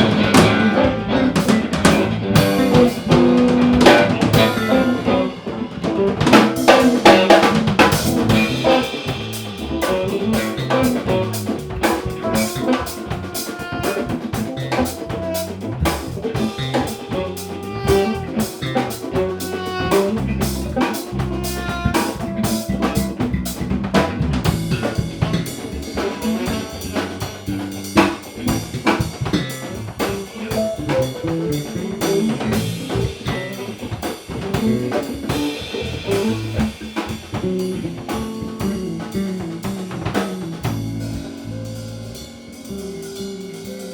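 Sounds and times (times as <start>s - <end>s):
bass: 0.0s - 43.9s
drum kit beat: 0.0s - 43.9s.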